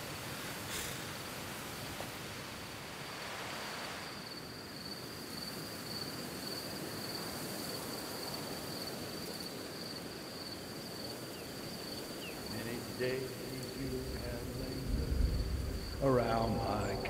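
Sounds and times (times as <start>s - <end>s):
crickets chirping: 0.0s - 17.0s
soft outdoor hiss: 0.0s - 17.0s.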